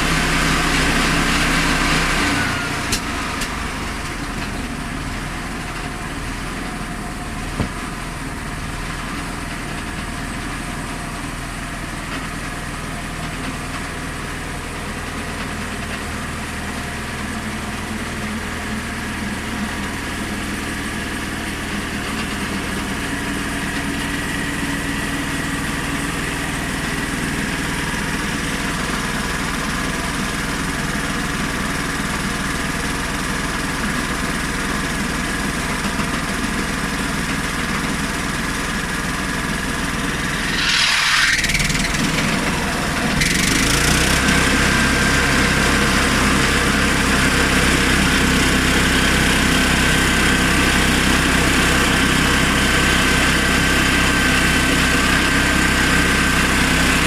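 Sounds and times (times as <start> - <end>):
petrol engine running: 0.0 - 57.0.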